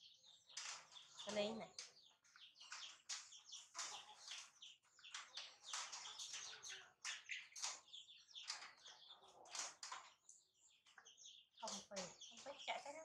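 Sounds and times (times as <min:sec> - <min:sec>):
rapid high-pitched chirping: 0:00.0 - 0:13.0.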